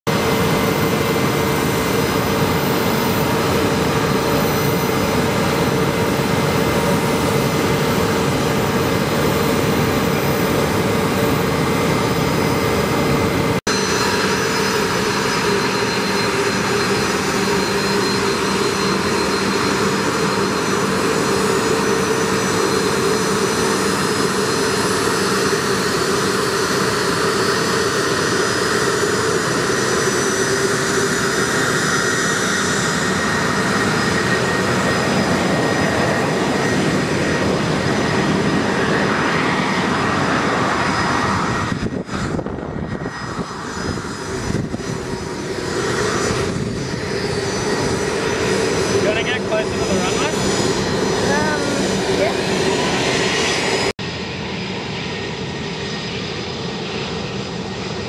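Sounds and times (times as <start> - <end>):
jet engines whining: 0.1 - 58.0.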